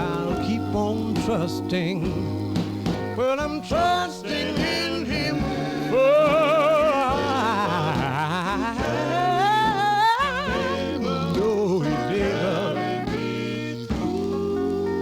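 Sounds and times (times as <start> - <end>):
tenor singing with vibrato: 0.0 - 15.0
vocal group background harmony: 0.0 - 15.0.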